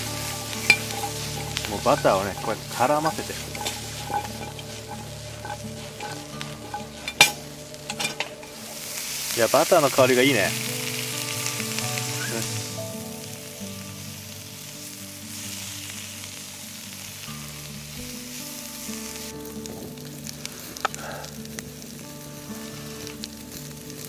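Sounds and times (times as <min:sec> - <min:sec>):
food sizzling in a pan: 0:00.0 - 0:24.0
quiet background music: 0:00.0 - 0:24.0.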